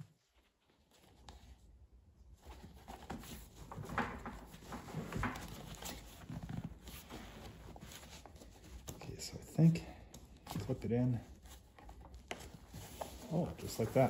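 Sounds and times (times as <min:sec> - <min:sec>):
fabric rustling and scraping: 0:00.0 - 0:09.8, 0:10.4 - 0:14.0.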